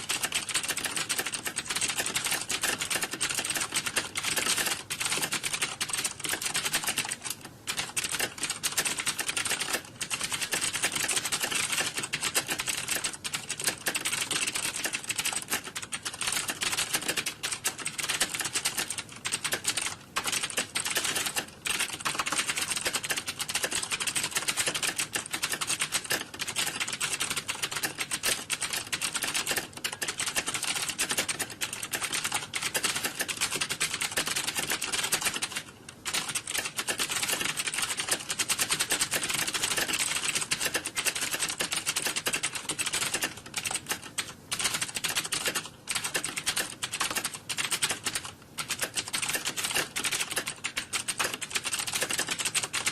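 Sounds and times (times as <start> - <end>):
fast keyboard typing: 0.0 - 52.9.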